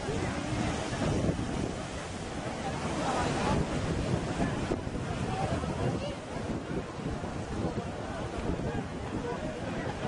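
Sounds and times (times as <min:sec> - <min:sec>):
breaking surf: 0:00.0 - 0:10.0
wind noise on microphone: 0:00.0 - 0:10.0.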